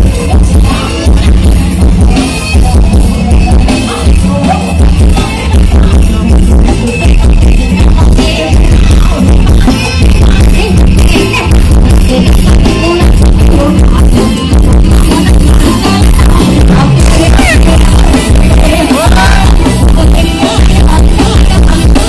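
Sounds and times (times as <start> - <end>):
loud music with heavy bass beat: 0.0 - 22.0.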